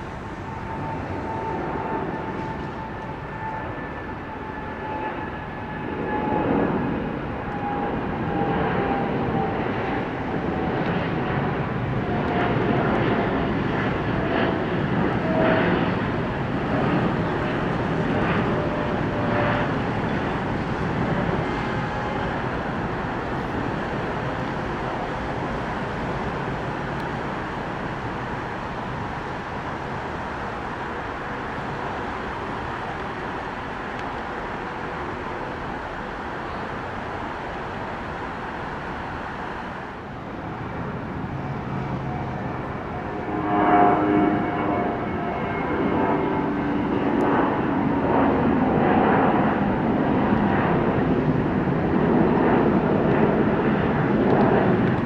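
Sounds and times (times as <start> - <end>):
jet engine whining: 0.0 - 55.0
jet engines roaring: 0.0 - 55.0.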